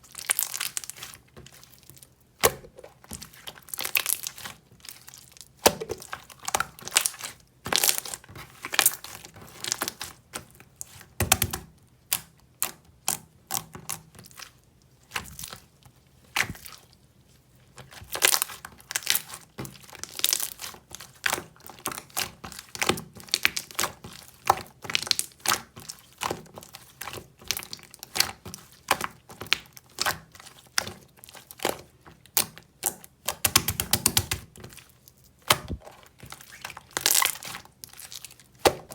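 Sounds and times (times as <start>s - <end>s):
crinkling and crackling with clicks: 0.0s - 38.9s.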